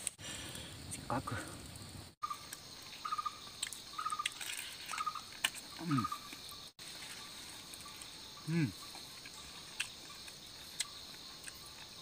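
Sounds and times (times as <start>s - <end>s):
crickets chirping in trills: 0.0s - 12.0s
high insect hiss: 0.0s - 12.0s.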